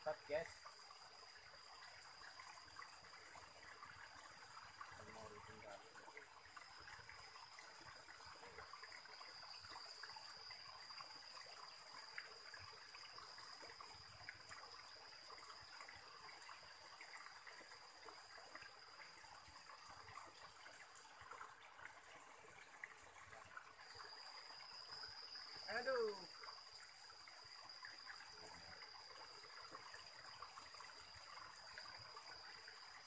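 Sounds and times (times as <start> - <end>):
stream trickling over rocks: 0.0 - 33.0.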